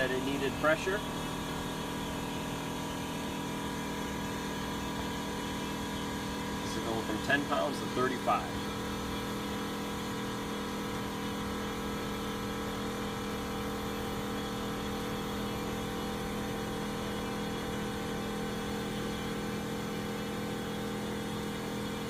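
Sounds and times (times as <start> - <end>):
air compressor running: 0.0 - 22.0.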